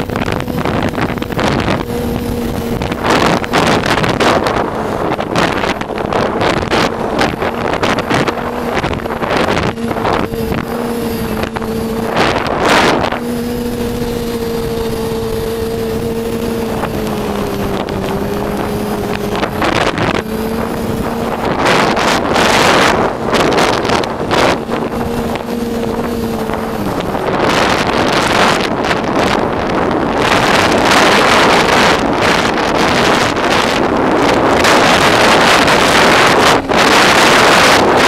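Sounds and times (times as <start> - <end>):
snowmobile engine running: 0.0 - 38.0
wind buffeting microphone: 0.0 - 38.0.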